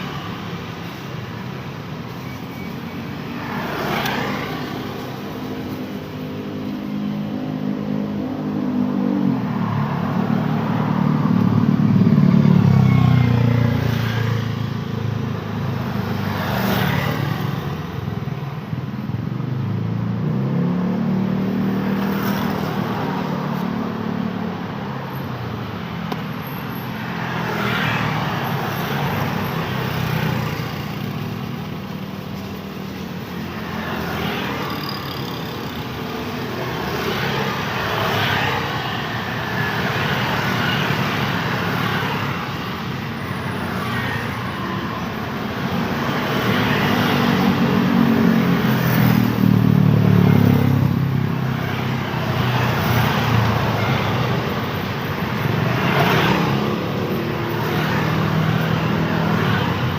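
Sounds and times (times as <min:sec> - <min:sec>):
cars and motorcycles passing: 0:00.0 - 0:59.9.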